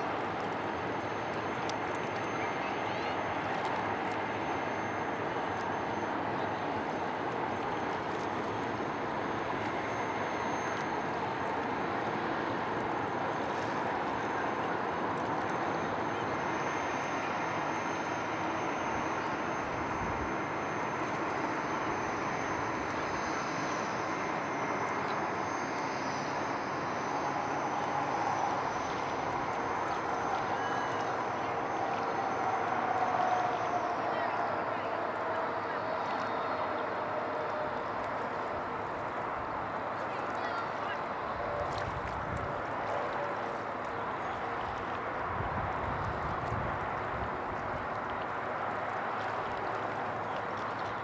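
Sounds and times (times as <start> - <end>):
thin high steady tone: 0.0 - 46.4
river water rushing: 0.0 - 51.0.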